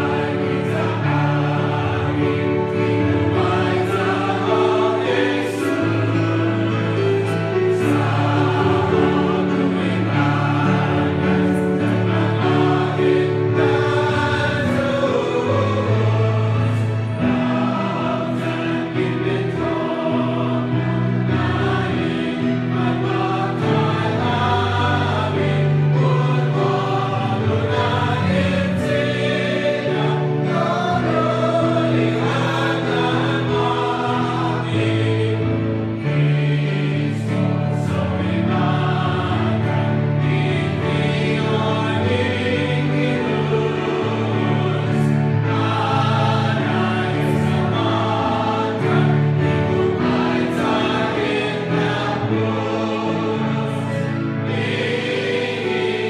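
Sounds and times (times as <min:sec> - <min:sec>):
church choir singing: 0:00.0 - 0:56.0.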